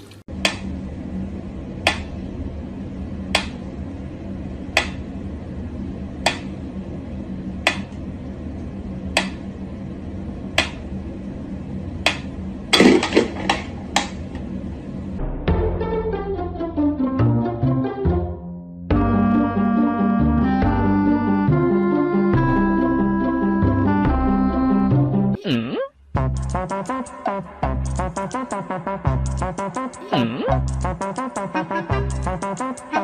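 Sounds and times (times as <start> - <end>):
low steady hum: 0.0 - 15.4, 19.0 - 33.0.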